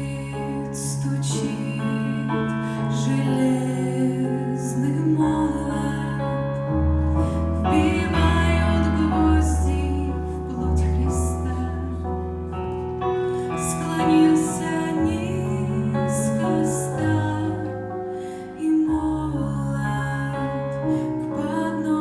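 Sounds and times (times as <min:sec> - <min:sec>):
slow gentle music: 0:00.0 - 0:22.0.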